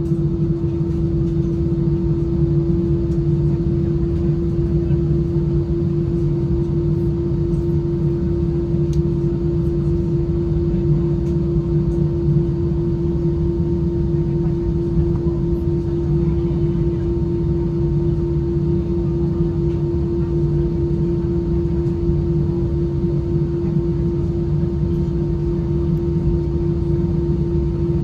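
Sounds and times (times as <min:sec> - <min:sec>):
airplane cabin drone: 0:00.0 - 0:28.0.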